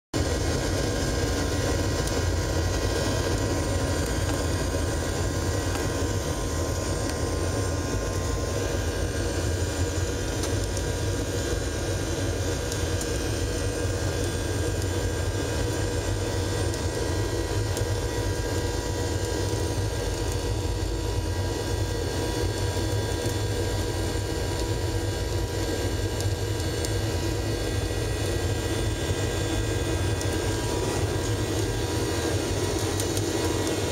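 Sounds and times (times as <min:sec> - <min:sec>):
jet engines low rumble: 0:00.2 - 0:33.9.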